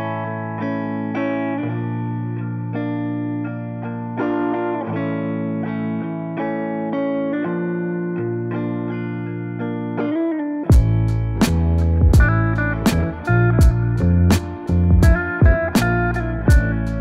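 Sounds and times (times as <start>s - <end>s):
guitar music: 0.0s - 17.0s.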